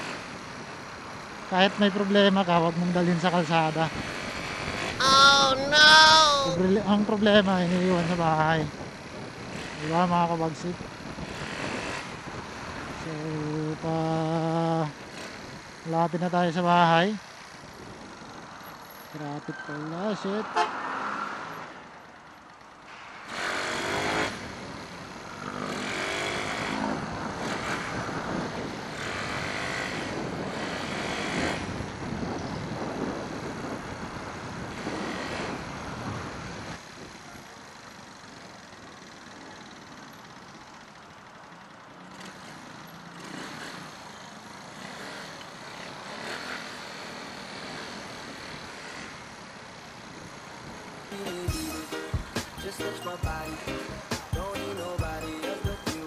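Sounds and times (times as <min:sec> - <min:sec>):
passing trucks and cars: 0:00.0 - 0:56.0.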